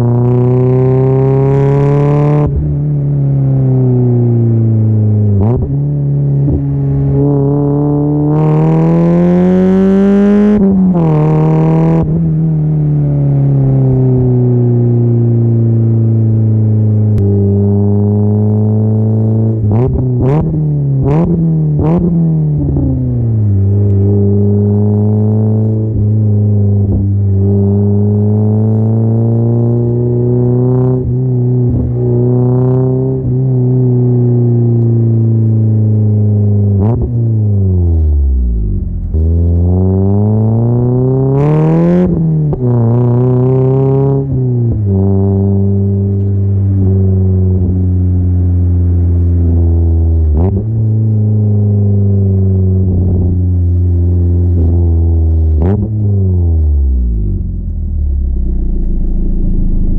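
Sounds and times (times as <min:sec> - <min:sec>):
car engine revving and idling: 0:00.0 - 0:59.9.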